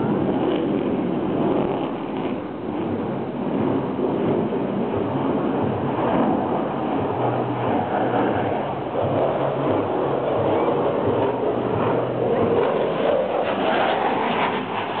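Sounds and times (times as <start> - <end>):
fighter jet roaring: 0.0 - 15.0.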